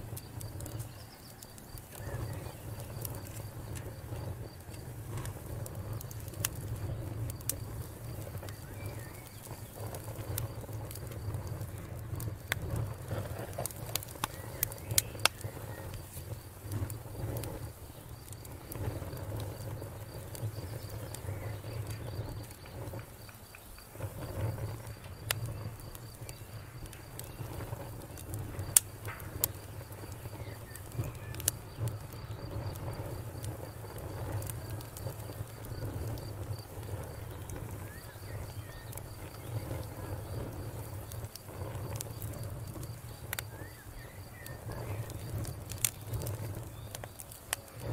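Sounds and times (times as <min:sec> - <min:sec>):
campfire crackling and popping: 0:00.0 - 0:47.9
insect trill: 0:00.0 - 0:47.9.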